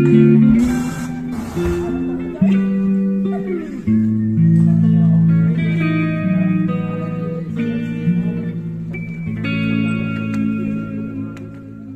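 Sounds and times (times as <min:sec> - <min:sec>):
electric guitar held notes: 0:00.0 - 0:11.9.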